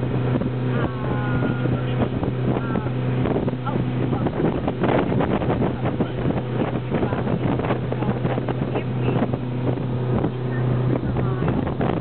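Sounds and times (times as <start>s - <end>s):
motorboat engine running: 0.0s - 12.0s
water rushing past hull: 0.0s - 12.0s
wind buffeting microphone: 0.0s - 12.0s.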